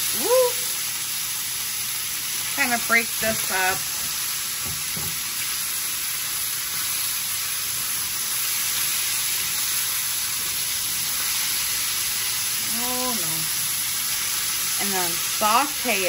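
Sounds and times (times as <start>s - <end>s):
bacon sizzling in a skillet: 0.0s - 16.0s.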